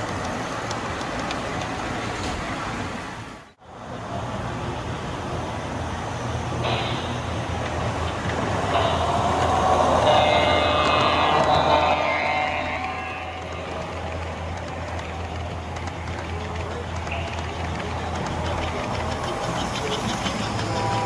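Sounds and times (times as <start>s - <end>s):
model trains rumbling: 0.0s - 21.0s.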